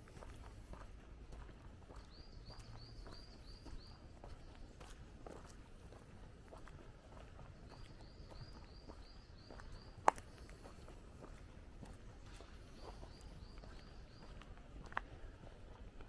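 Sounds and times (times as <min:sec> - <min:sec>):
footsteps on a path: 0:00.0 - 0:16.0.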